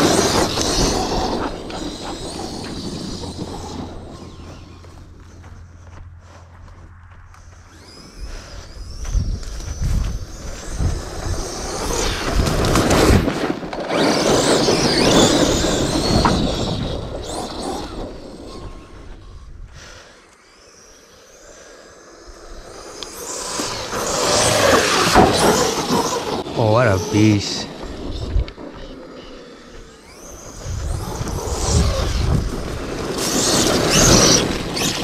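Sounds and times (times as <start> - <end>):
tyres rushing over dirt: 0.0 - 19.3, 22.6 - 35.0
electric motor whining: 0.0 - 35.0.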